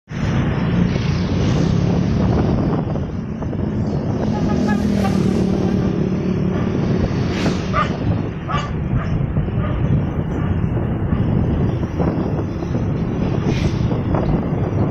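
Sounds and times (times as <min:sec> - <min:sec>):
road and wind noise: 0:00.0 - 0:14.9.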